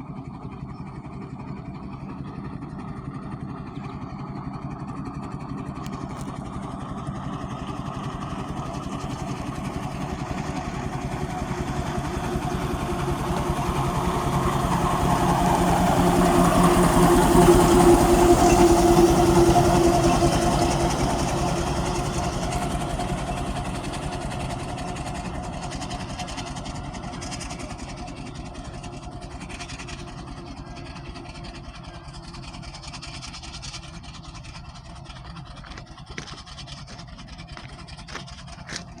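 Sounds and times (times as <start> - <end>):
steam traction engine clattering: 1.0 - 39.0.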